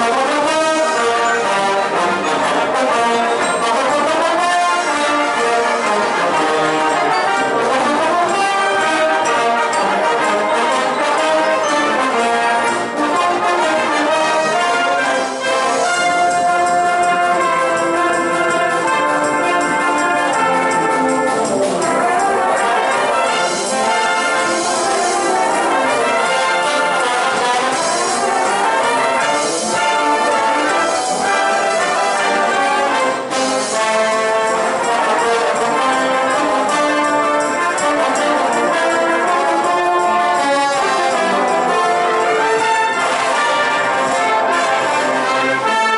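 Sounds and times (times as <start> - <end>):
brass band playing: 0.0 - 45.9.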